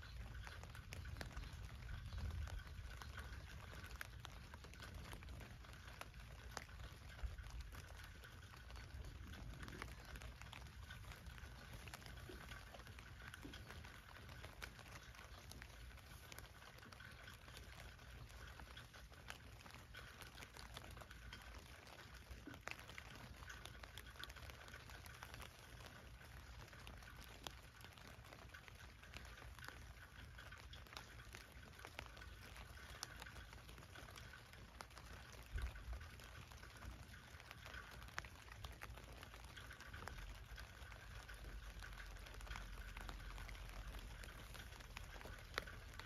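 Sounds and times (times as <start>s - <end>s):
low steady rumble: 0.0s - 46.0s
rain pattering on a tent: 0.0s - 46.0s.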